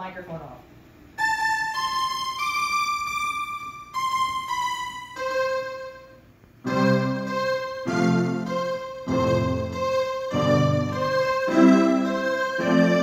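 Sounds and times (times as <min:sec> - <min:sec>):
electronic keyboard melody: 0:01.2 - 0:13.0
keyboard chords with bass notes: 0:01.2 - 0:13.0.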